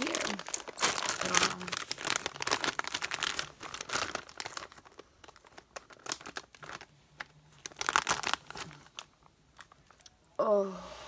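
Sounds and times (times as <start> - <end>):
plastic chip bag rustling: 0.0 - 10.0.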